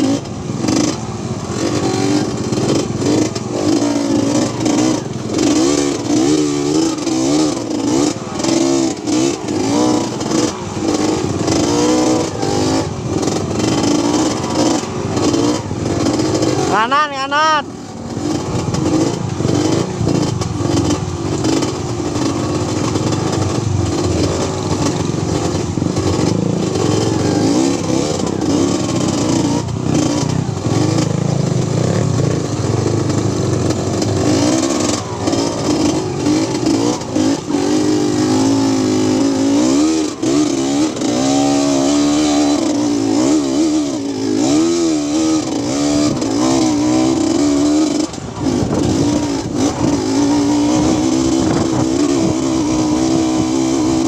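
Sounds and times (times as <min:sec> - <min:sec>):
small motorcycle engine revving: 0:00.0 - 0:54.0.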